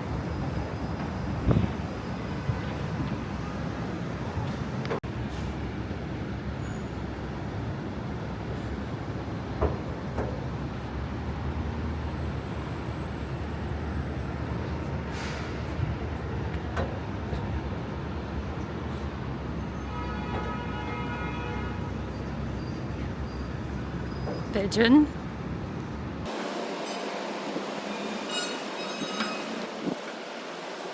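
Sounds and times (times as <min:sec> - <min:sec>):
city traffic noise: 0:00.0 - 0:30.9.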